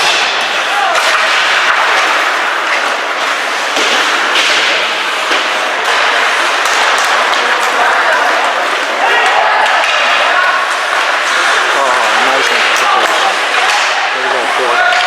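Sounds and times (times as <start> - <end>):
skates scraping ice: 0.0 - 15.0
sticks and puck cracking: 0.0 - 15.0.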